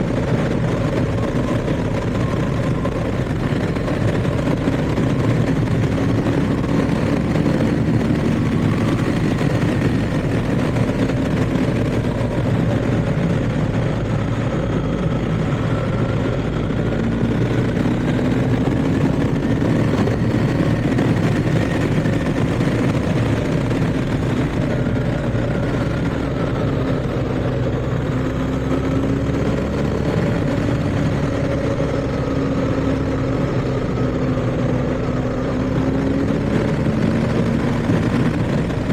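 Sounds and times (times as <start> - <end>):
motorcycle engine cruising: 0.0 - 38.9
road and wind noise: 0.0 - 38.9.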